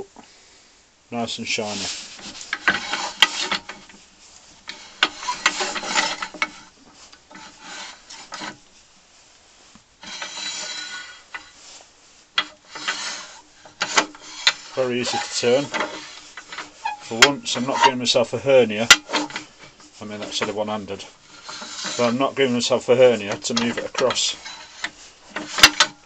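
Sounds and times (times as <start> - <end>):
metal sliding on metal: 1.5 - 8.7, 10.0 - 26.0.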